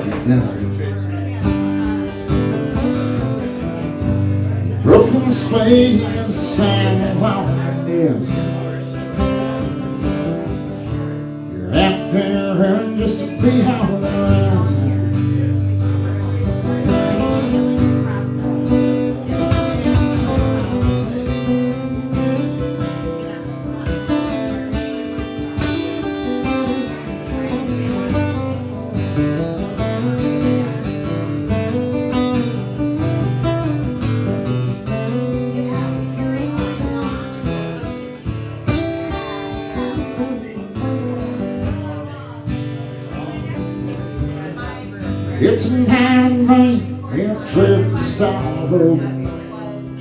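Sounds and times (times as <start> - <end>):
acoustic guitar strumming with melody: 0.0 - 50.0.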